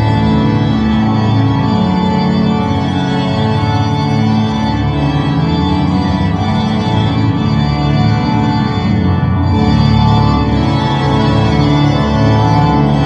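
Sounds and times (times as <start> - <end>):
pipe organ chords: 0.0 - 13.0.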